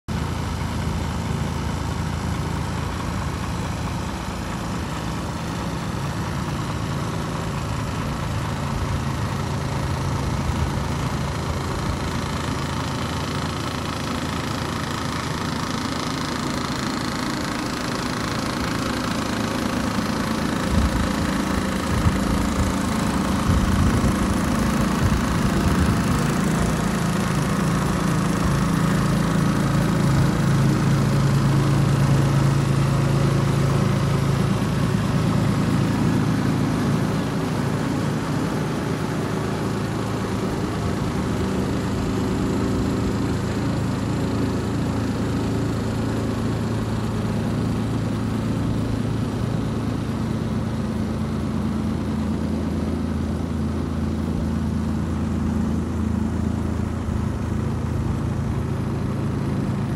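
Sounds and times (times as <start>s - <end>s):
diesel truck engine idling: 0.1s - 59.9s.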